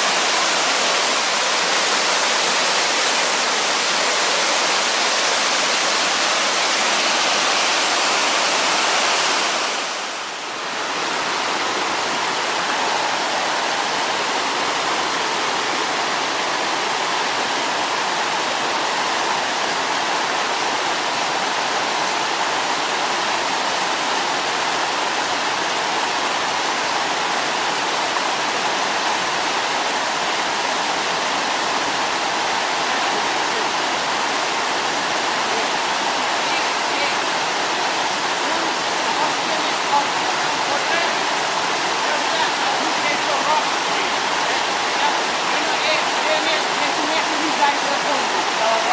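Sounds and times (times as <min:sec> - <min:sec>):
stream rushing over rocks: 0:00.0 - 0:48.9.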